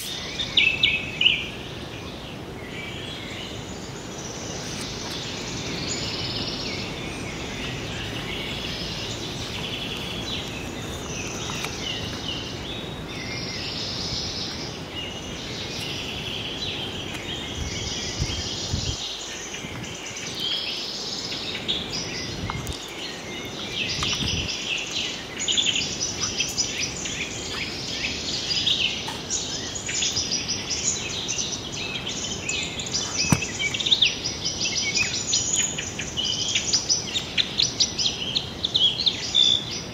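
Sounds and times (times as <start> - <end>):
birds and insects chirping: 0.0 - 39.9
steady low outdoor noise: 0.0 - 39.9.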